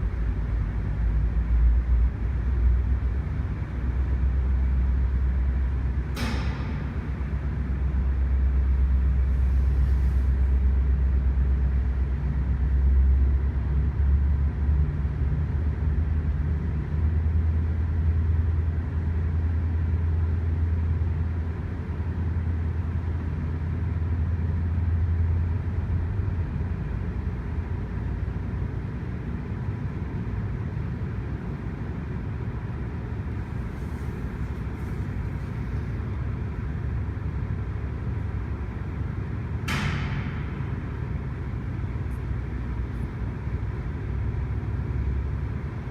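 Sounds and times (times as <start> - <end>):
diesel locomotive engine droning: 0.0 - 45.9
rumble of moving train: 0.0 - 45.9.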